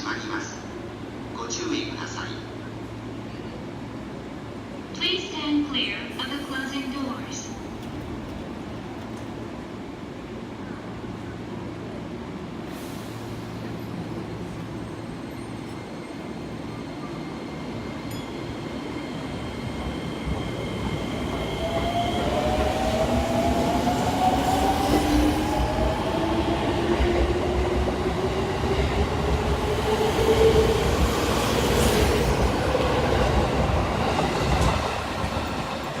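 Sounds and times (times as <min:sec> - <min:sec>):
rumble of wheels on rail: 0:00.0 - 0:36.0.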